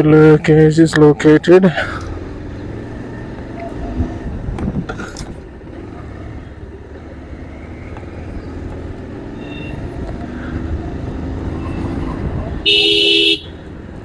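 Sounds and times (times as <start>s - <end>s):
faint traffic tones: 0.0s - 14.0s
motorcycle engine and road rumble: 0.0s - 14.0s.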